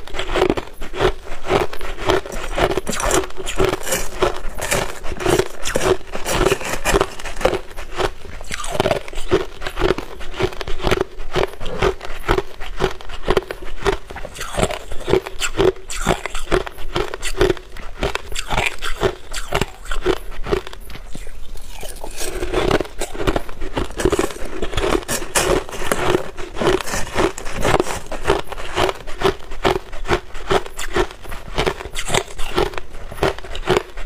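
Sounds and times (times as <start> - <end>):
crushed ice being chewed: 0.0 - 34.0.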